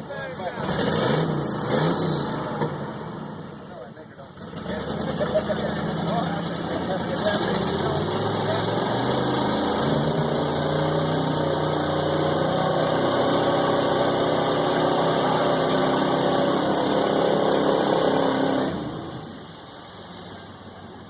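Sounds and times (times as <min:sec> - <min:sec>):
truck engine revving hard: 0:00.0 - 0:19.7.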